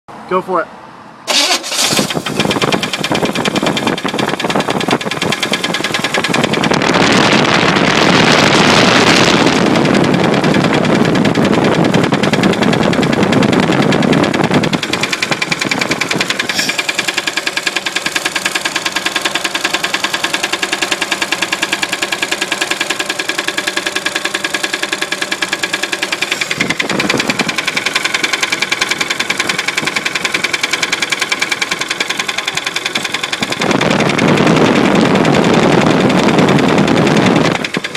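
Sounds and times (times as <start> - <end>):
car engine revving and idling: 1.7 - 37.9.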